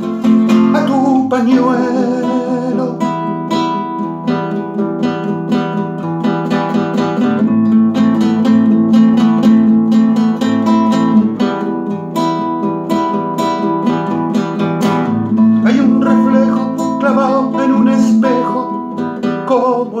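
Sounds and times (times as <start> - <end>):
classical acoustic guitar: 0.0 - 20.0.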